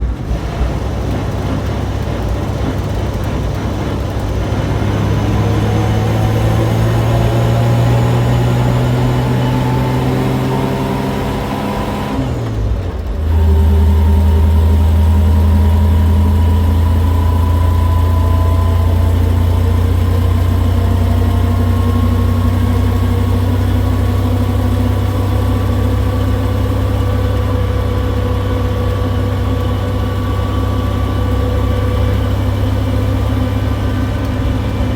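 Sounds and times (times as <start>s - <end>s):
truck engine accelerating: 0.0s - 34.9s.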